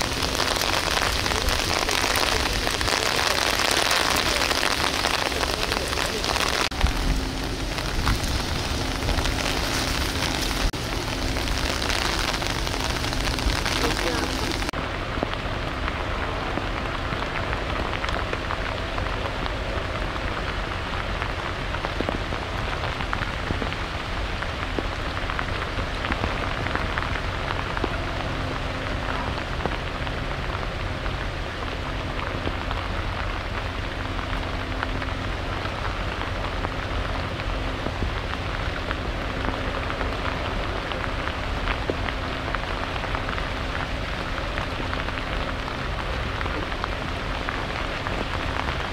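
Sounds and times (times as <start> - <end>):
rain pattering: 0.0 - 48.9.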